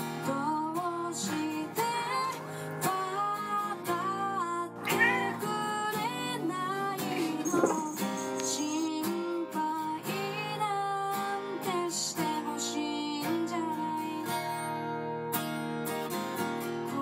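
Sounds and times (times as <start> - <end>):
strummed acoustic guitar: 0.0 - 17.0
person singing: 0.6 - 14.5.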